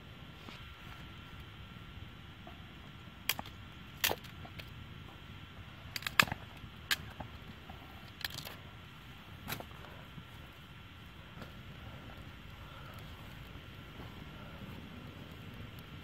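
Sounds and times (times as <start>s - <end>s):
twig fire crackling: 0.0s - 16.0s.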